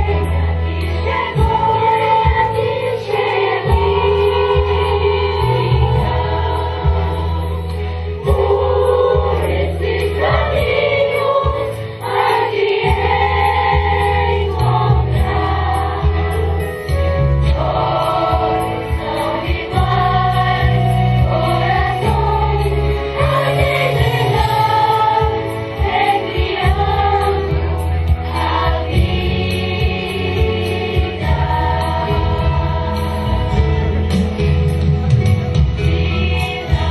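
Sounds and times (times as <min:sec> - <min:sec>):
children's choir singing: 0:00.0 - 0:34.6, 0:35.7 - 0:36.9
instrumental accompaniment with deep bass: 0:00.0 - 0:36.9.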